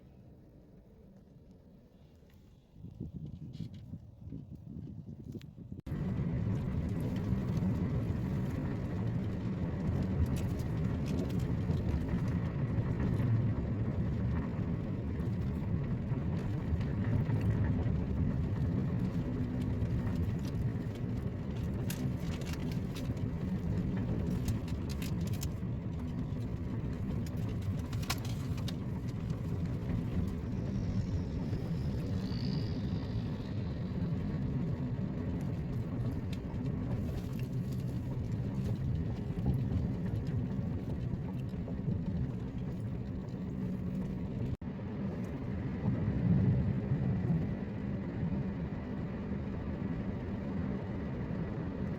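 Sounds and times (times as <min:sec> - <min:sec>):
car driving rumble: 0:05.6 - 0:51.9.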